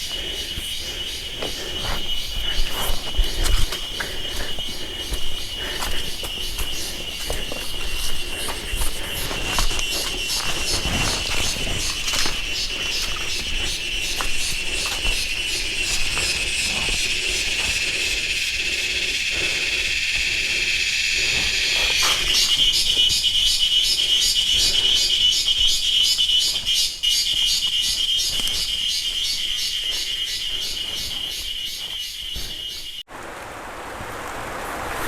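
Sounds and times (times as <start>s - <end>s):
louder pulsing insect call: 0.0s - 33.1s
insects buzzing in pulses: 0.0s - 35.0s.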